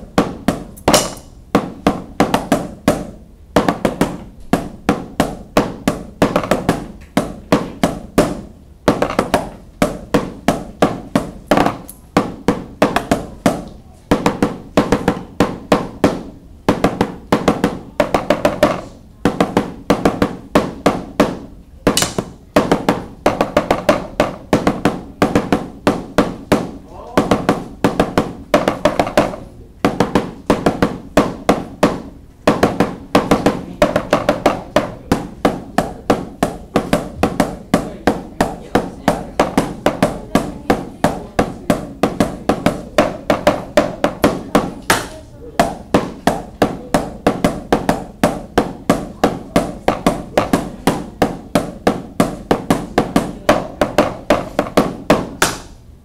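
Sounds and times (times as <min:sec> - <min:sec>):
drumsticks tapping practice pads: 0:00.0 - 0:55.9.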